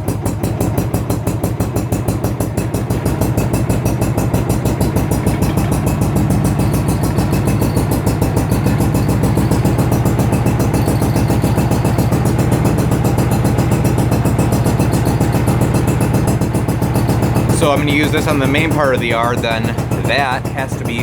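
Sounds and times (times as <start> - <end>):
lawn tractor engine idling: 0.0 - 21.0.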